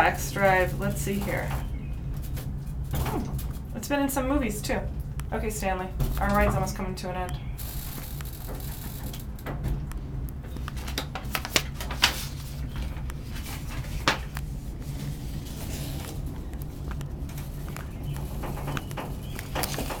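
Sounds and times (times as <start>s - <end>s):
funicular car humming: 0.0s - 20.0s
sharp clicks and knocks: 0.5s - 15.0s, 15.9s - 20.0s.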